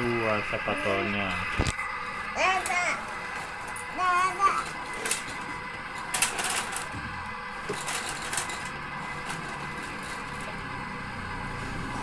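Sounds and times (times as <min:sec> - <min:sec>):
toy motors and gears whirring: 0:00.0 - 0:12.0.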